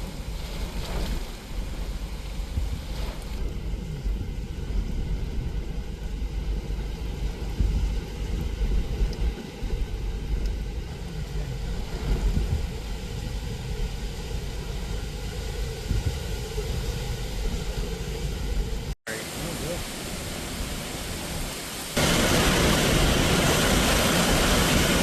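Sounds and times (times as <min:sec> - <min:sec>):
wind gusting hard: 0:00.0 - 0:25.0.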